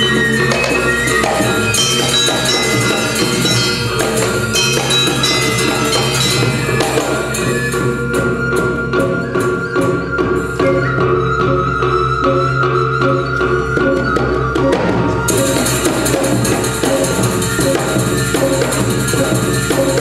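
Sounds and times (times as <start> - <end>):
drum strokes: 0.0 - 11.6, 13.8 - 20.0
metallophones ringing: 0.0 - 13.8, 15.2 - 20.0.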